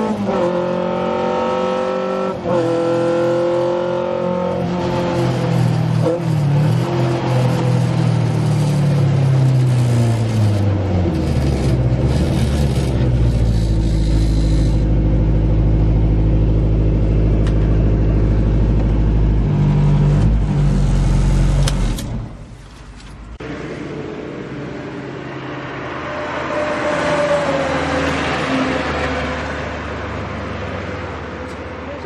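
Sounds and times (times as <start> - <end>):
car engine droning: 0.0 - 32.0.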